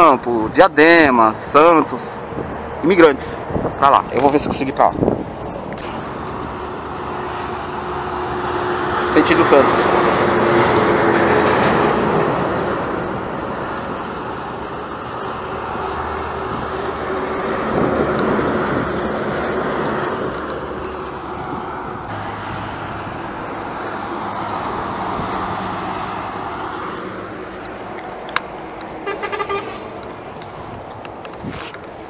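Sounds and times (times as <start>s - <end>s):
highway traffic passing: 0.0s - 32.0s.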